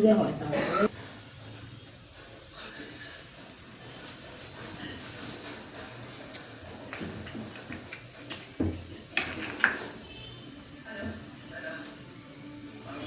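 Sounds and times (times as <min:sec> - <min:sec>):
steady hiss: 0:00.5 - 0:13.0.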